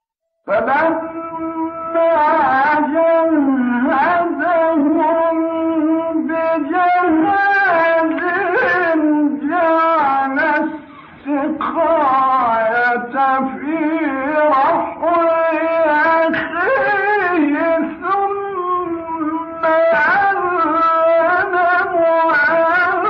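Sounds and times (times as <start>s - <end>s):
man chanting recitation: 0.4s - 23.0s.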